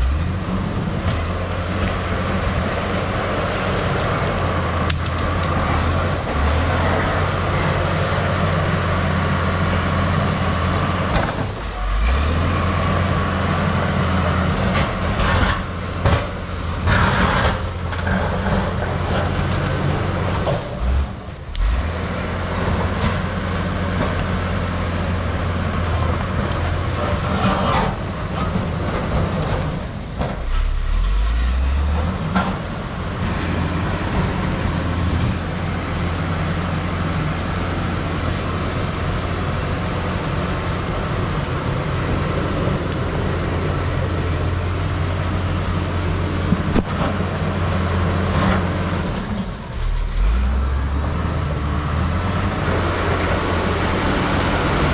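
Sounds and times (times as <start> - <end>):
bulldozer diesel engine under load: 0.0 - 54.9.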